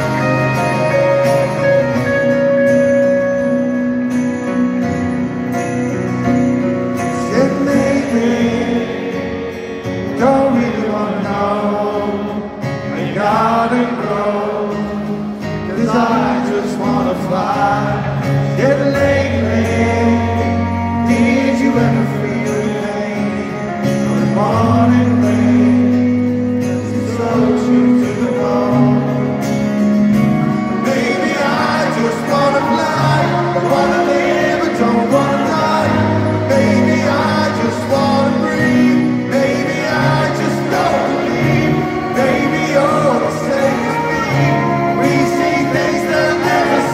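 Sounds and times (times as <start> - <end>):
live rock band playing: 0.0 - 46.9
man singing lead vocal: 7.0 - 46.9.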